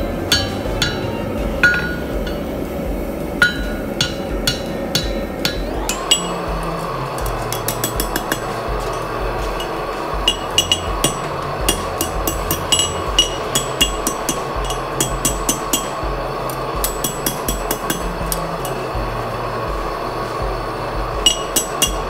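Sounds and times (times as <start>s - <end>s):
hammer striking steel on anvil: 0.0s - 2.8s, 3.4s - 19.0s, 21.2s - 22.0s
steady hum: 0.0s - 22.0s.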